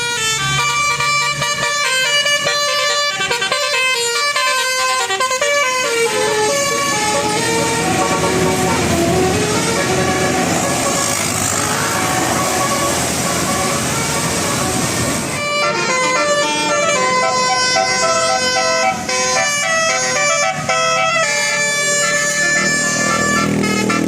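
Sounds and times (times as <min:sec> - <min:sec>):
multi-tone bus horn melody: 0:00.0 - 0:24.0
passing traffic: 0:00.0 - 0:24.0.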